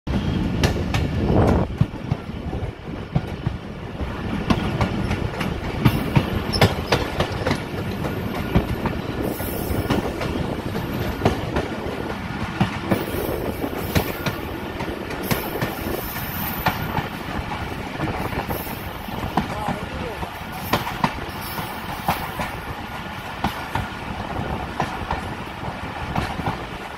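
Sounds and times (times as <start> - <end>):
train coach rumbling: 0.1 - 26.9
wheels clacking over rail joints: 0.6 - 26.9.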